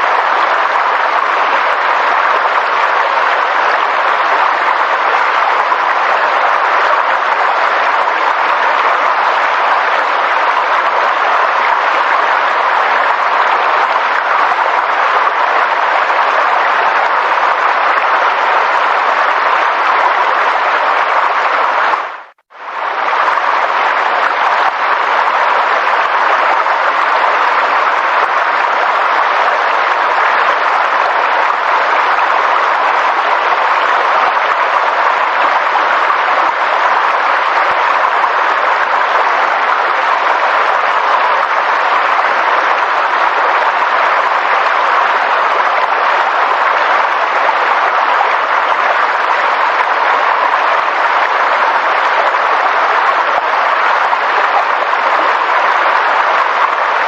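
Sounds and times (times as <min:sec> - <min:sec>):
steady water noise: 0:00.0 - 0:57.0.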